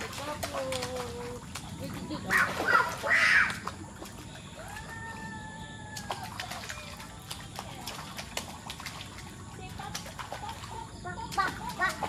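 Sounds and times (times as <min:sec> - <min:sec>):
toddlers splashing in water: 0:00.0 - 0:12.0.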